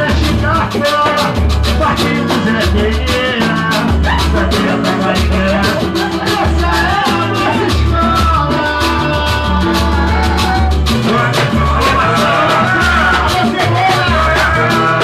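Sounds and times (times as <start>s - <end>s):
band playing drums and percussion: 0.0s - 15.0s
person singing: 0.0s - 15.0s.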